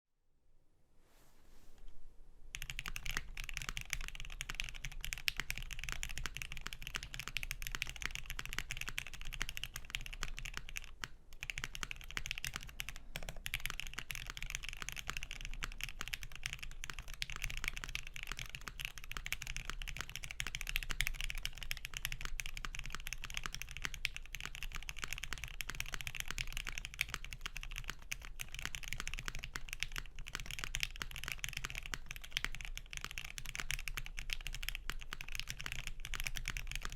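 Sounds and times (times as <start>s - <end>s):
typing on mechanical keyboard: 2.6s - 36.9s.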